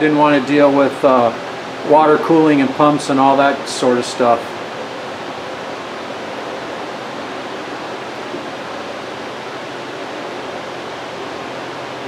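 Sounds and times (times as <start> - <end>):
fan-like hiss: 0.0 - 12.0.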